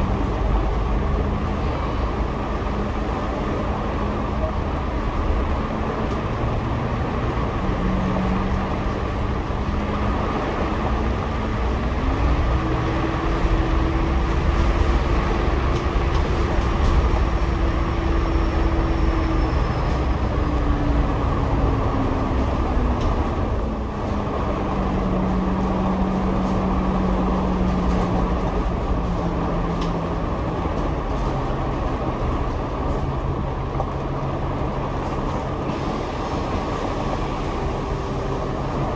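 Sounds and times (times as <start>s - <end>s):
bus engine rumble: 0.0s - 38.9s.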